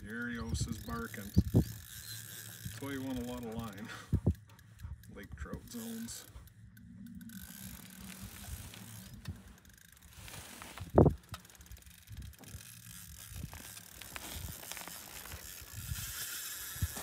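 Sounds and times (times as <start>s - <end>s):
fishing reel clicking and ratcheting: 0.0s - 17.0s.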